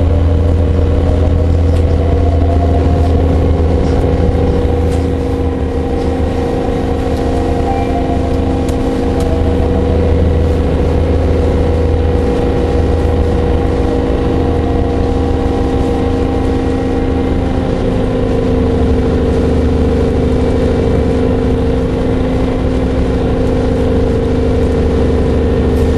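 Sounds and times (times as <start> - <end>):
bus engine drone: 0.0 - 25.9
low rumble: 0.0 - 25.9.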